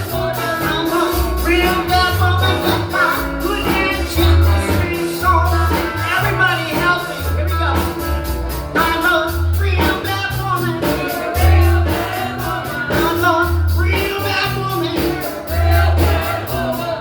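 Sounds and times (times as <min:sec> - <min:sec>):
bass line: 0:00.0 - 0:17.0
drums with cymbal strokes: 0:00.0 - 0:17.0
lead melody: 0:00.0 - 0:17.0.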